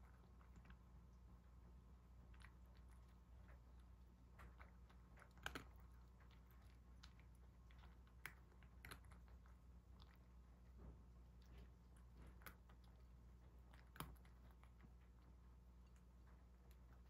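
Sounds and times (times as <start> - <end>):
cat chewing and licking: 0.0 - 17.0.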